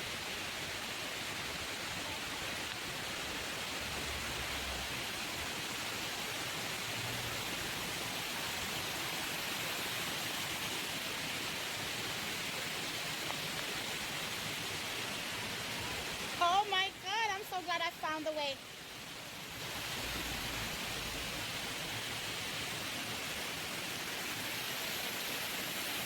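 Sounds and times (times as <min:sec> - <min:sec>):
waterfall roaring: 0:00.1 - 0:26.0.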